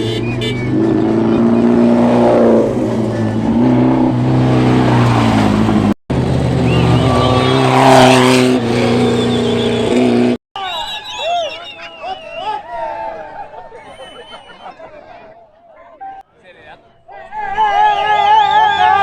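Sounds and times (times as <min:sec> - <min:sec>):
off-road race engines passing: 0:00.0 - 0:15.4.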